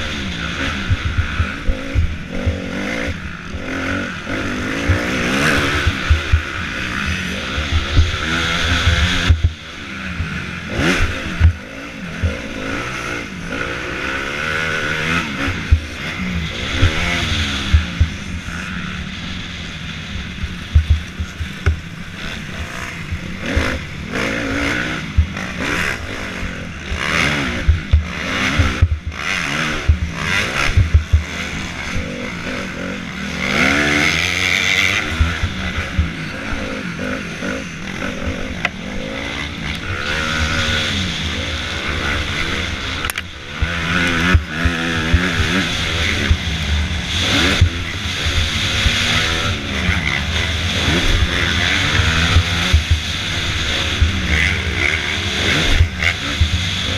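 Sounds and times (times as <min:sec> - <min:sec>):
motocross bike engine: 0:00.0 - 0:56.9.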